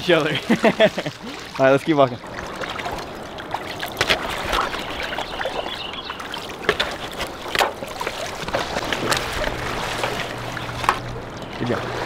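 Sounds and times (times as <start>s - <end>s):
shallow water sloshing and splashing: 0.0s - 12.0s.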